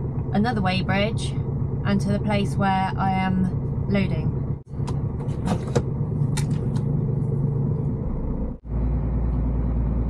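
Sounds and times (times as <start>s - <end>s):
truck diesel engine rumbling: 0.0s - 10.0s.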